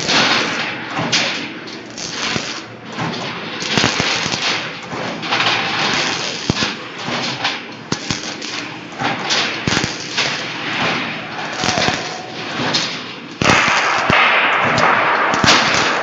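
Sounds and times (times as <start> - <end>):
sharp metallic clanks: 0.0 - 16.0
welding crackle and spatter: 0.0 - 16.0.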